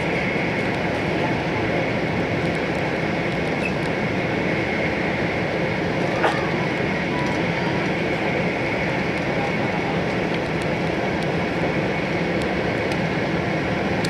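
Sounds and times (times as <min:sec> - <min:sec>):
train running noise inside cabin: 0:00.0 - 0:14.0.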